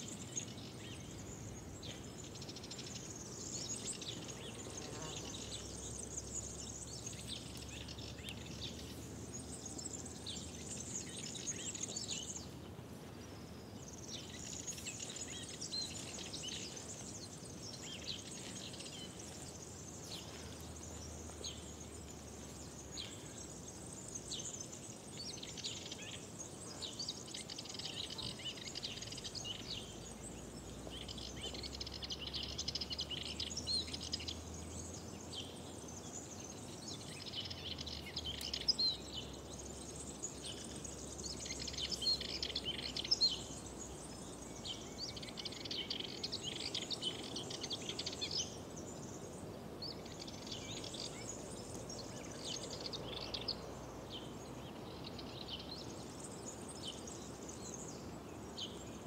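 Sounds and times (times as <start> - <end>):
birds chirping: 0.0 - 59.0
faint background hiss: 0.0 - 59.0.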